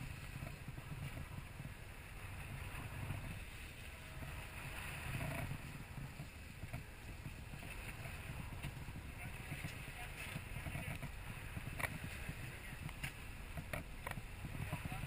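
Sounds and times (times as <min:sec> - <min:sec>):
boat engine rumble: 0:00.0 - 0:15.0
wind: 0:00.0 - 0:15.0.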